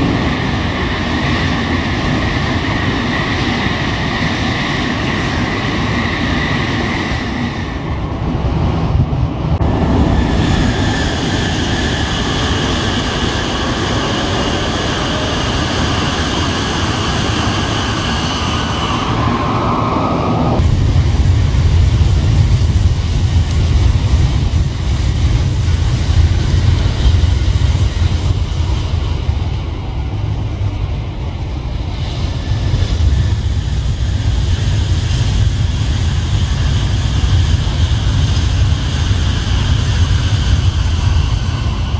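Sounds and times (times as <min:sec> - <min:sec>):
high-speed trains rushing past: 0:00.0 - 0:41.9.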